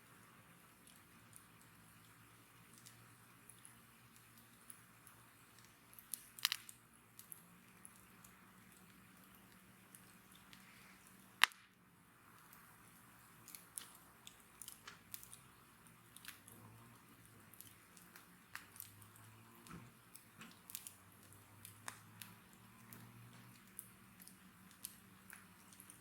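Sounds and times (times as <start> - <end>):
wood bonfire crackling: 0.0 - 26.0.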